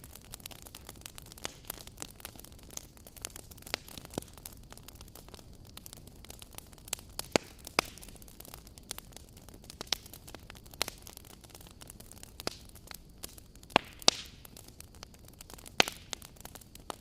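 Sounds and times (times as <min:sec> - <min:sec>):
soft steady hiss: 0:00.0 - 0:17.0
wood fire crackling and popping: 0:00.0 - 0:17.0.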